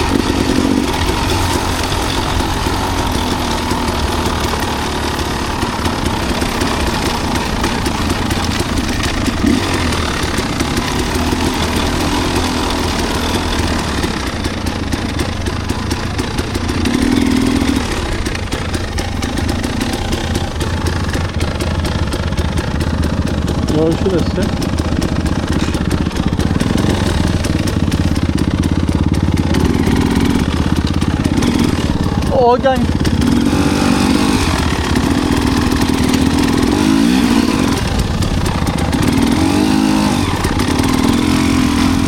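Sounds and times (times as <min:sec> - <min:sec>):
dirt bike engine running: 0:00.0 - 0:42.0.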